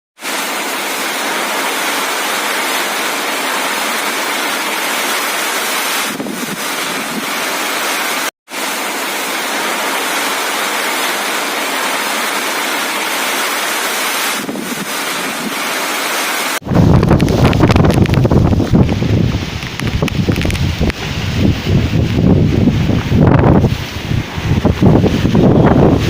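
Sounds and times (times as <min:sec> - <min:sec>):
gusting wind: 0:00.2 - 0:26.0
heavy rain pouring: 0:00.2 - 0:26.0.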